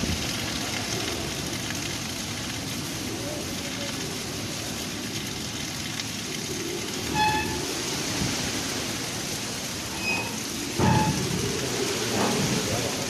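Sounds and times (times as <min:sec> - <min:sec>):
heavy rain falling on road: 0:00.0 - 0:13.0.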